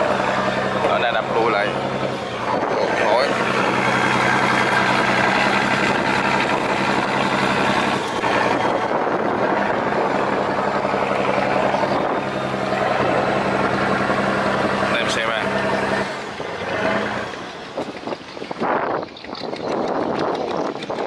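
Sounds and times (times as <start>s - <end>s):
boat diesel engine drone: 0.0s - 21.0s.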